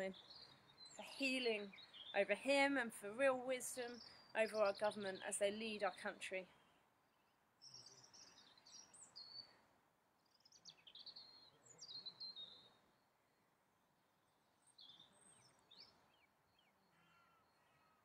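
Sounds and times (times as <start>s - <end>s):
faint warbling songbird: 0.0s - 13.0s, 14.3s - 18.0s
outdoor background noise: 0.0s - 18.0s.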